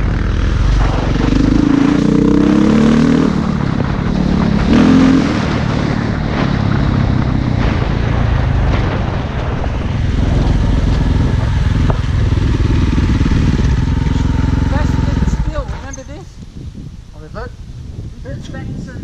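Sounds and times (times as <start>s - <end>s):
dirt bike engine running: 0.0s - 16.2s.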